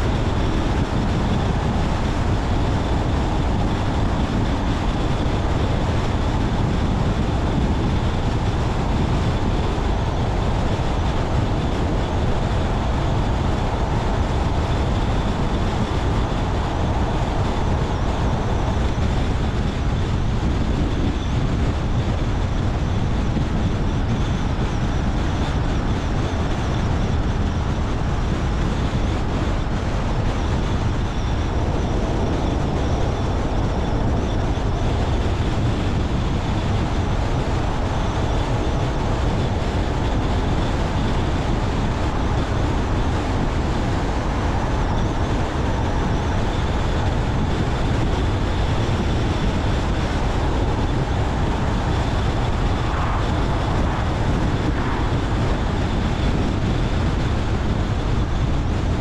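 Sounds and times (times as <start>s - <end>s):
car tyre and engine rumble: 0.0s - 59.0s
faint high whine: 0.0s - 59.0s.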